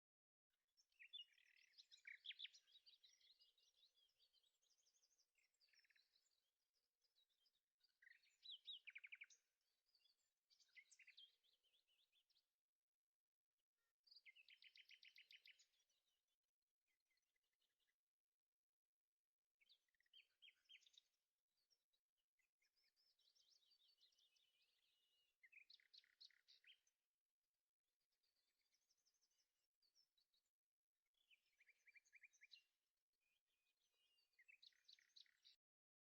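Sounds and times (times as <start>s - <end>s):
faint songbird song: 0.0s - 36.0s.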